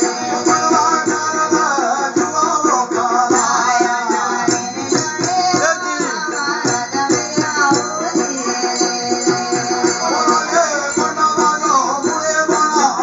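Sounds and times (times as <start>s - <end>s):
man and woman singing: 0.0s - 13.0s
small drum beating: 0.0s - 13.0s.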